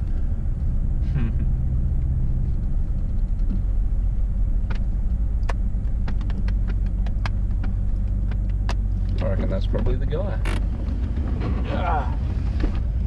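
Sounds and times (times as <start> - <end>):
vehicle rolling on dirt track: 0.0 - 13.0.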